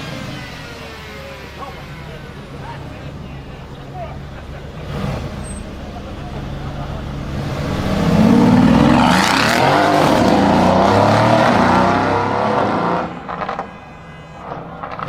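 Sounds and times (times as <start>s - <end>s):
car with loud exhaust accelerating: 0.0s - 15.0s.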